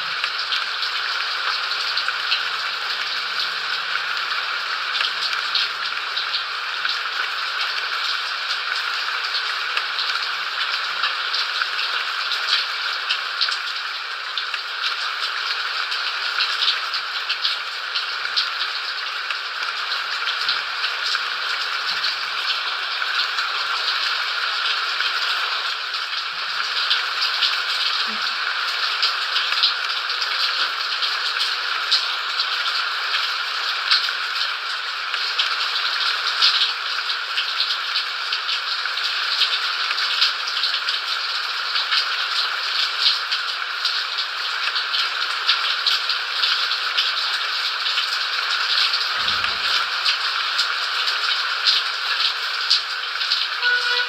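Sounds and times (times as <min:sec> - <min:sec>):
raindrops ticking: 0:00.0 - 0:54.0
steady rain: 0:00.0 - 0:54.0.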